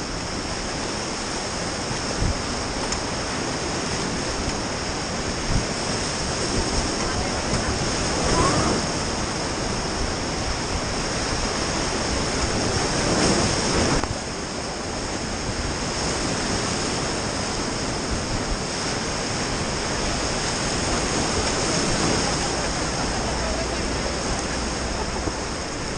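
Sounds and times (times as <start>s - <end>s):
whitewater rapids roaring: 0.0s - 25.9s.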